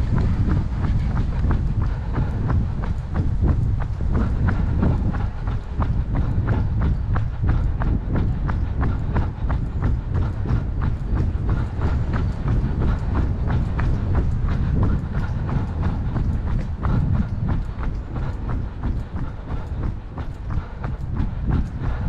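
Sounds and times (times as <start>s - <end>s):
footsteps running on a path: 0.0s - 22.0s
steady low rumble: 0.0s - 22.0s.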